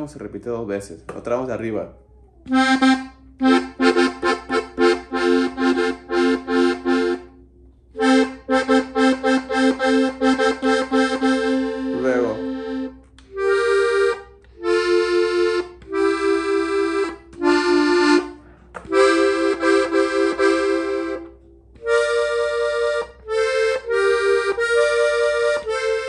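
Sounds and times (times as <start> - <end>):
button accordion melody: 2.5 - 26.0.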